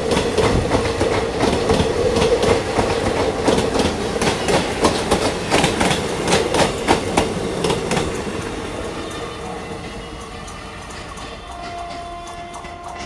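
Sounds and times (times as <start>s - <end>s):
train wheels clacking over rail joints: 0.0s - 13.0s.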